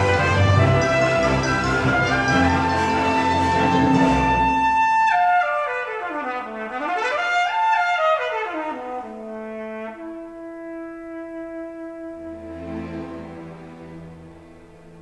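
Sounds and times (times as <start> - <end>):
trumpet through loudspeakers: 0.0 - 12.6
musical accompaniment: 0.0 - 15.0.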